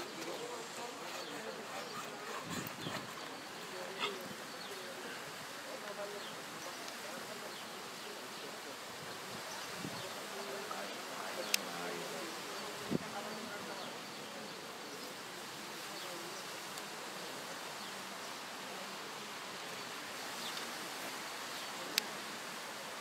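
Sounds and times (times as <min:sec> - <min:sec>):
indoor arena hiss: 0:03.1 - 0:23.0.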